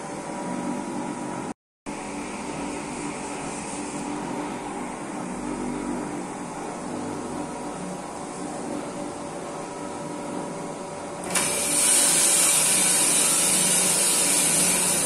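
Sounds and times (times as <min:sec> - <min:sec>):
coffee roaster whirring: 0:00.0 - 0:15.0.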